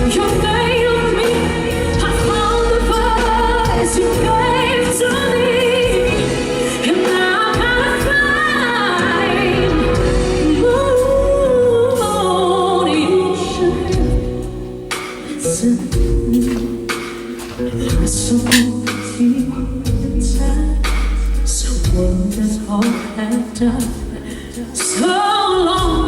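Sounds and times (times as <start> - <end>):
woman singing a power ballad: 0.0 - 26.0.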